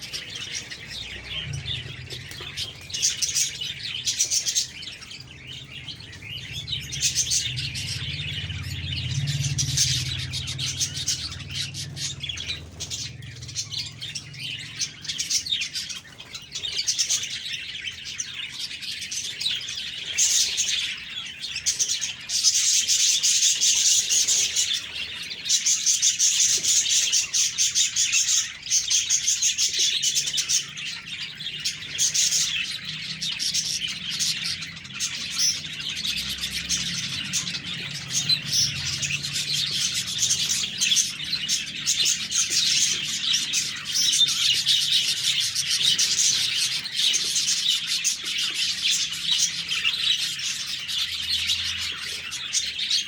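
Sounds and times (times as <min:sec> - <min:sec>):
budgies chirping and chattering: 0:00.0 - 0:53.0.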